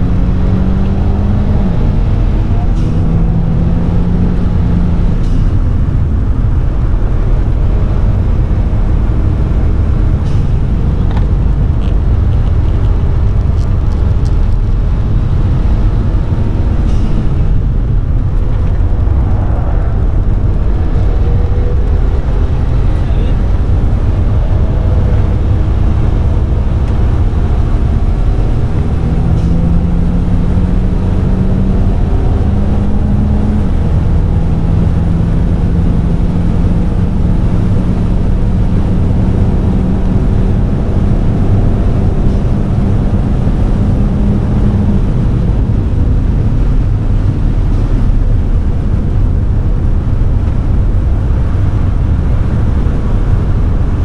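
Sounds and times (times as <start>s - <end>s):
car engine accelerating: 0.0s - 54.0s
heavy cabin rumble: 0.0s - 54.0s.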